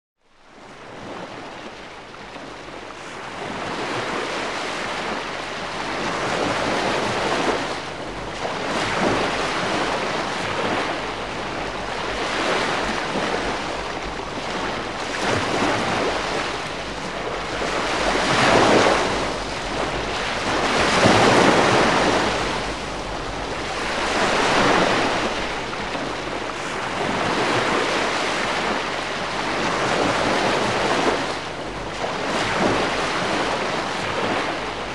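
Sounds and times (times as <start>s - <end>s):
gentle waves washing in: 0.3s - 34.9s.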